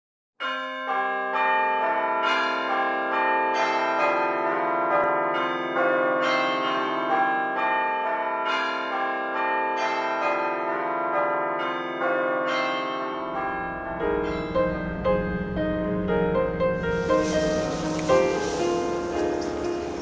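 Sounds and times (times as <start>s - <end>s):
church bells pealing: 0.4s - 20.0s.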